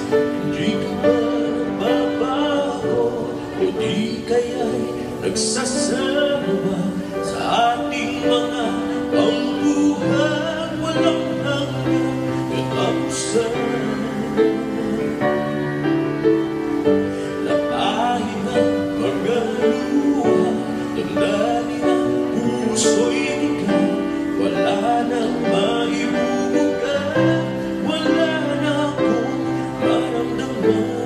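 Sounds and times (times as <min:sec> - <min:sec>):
man singing into microphone: 0:00.0 - 0:31.0.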